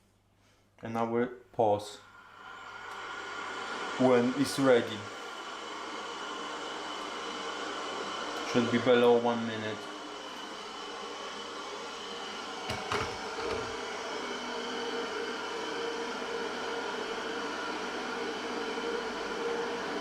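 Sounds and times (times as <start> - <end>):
electric kettle hissing and humming: 2.0 - 20.0.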